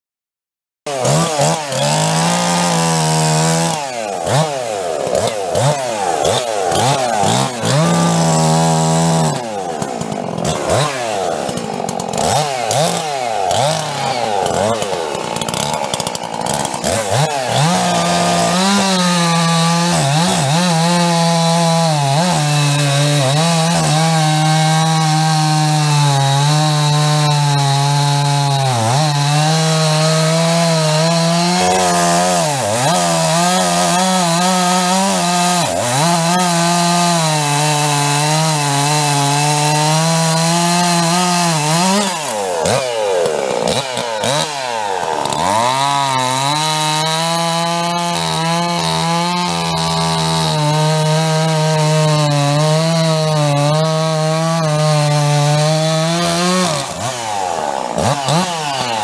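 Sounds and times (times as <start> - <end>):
chainsaw cutting tree: 0.9 - 59.0.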